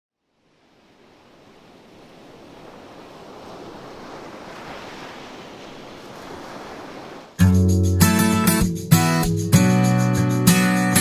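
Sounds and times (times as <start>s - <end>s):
ocean surf: 0.2s - 9.3s.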